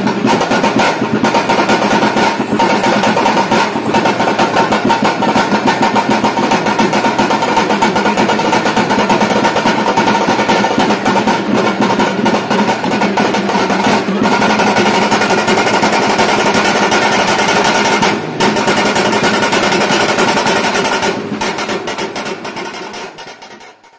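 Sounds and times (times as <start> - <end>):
frame drums rolling rhythm: 0.0 - 23.9.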